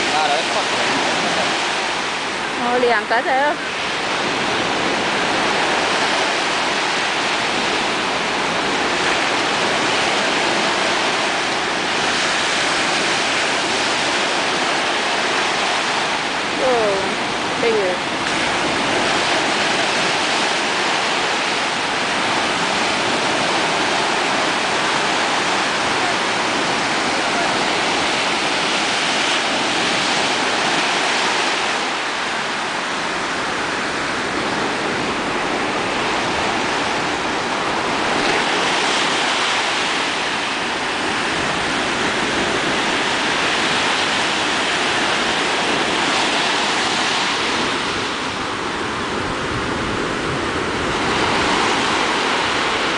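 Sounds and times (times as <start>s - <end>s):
surf breaking: 0.0s - 52.9s.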